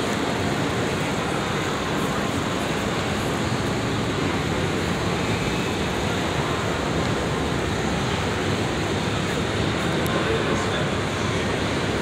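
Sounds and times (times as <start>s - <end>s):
exhibition hall background roar: 0.0s - 12.0s.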